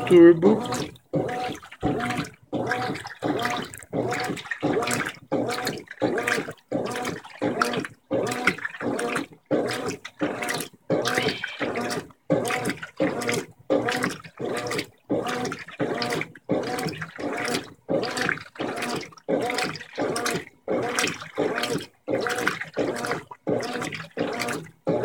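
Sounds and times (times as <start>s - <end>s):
washing machine agitating: 0.0s - 25.0s
water sloshing in drum: 0.0s - 25.0s.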